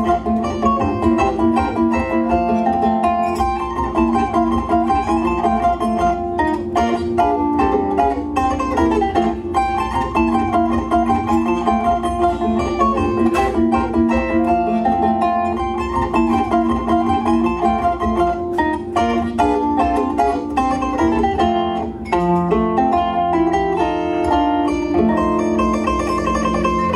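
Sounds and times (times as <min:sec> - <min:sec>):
zither plucked melody: 0:00.0 - 0:26.9.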